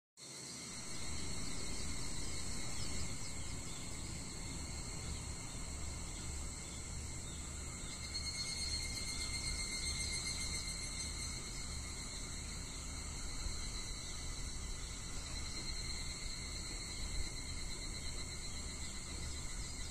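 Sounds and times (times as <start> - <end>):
cicadas ringing: 0.2 - 19.9
higher cicada band: 0.2 - 19.9
low background rumble: 0.7 - 19.9.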